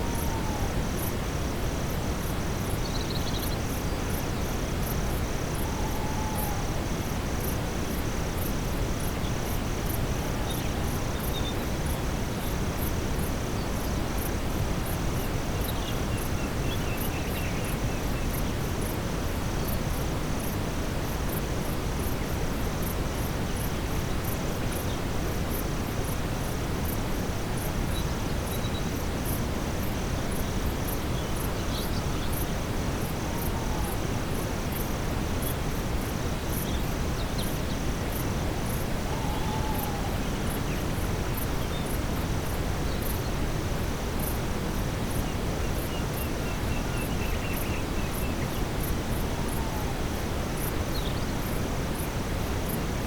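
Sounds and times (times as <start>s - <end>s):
night insects chirping: 0.0s - 53.0s
steady insect trill: 0.0s - 53.0s.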